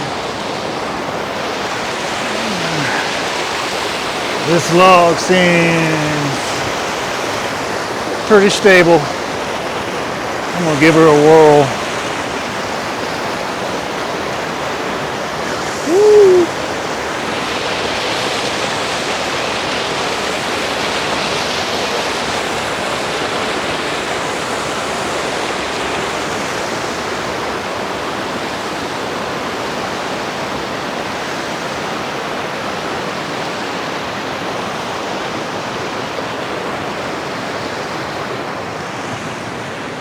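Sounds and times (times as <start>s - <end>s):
mountain creek rushing: 0.0s - 40.0s.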